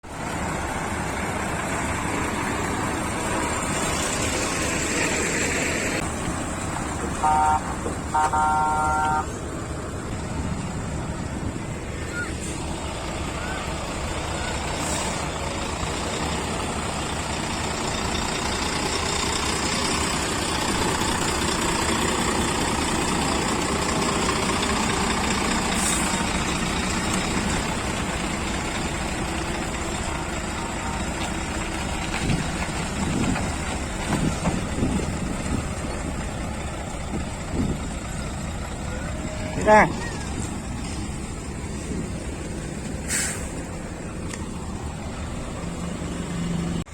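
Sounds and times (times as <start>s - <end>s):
heavy lorry engines running: 0.0s - 46.9s
steady traffic noise: 0.0s - 46.9s.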